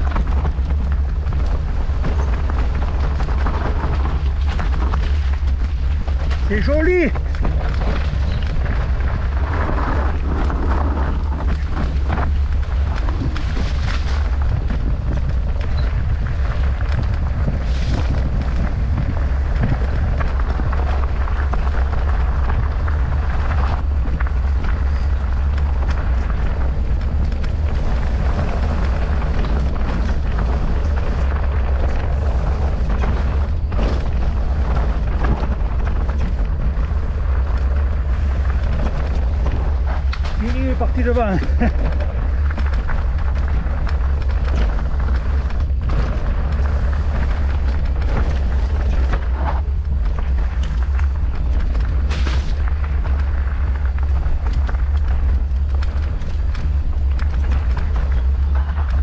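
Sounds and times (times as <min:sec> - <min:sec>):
bike knocks and rattles: 0:00.0 - 0:59.0
tyre noise: 0:00.0 - 0:59.0
wind rumble on microphone: 0:00.0 - 0:59.0.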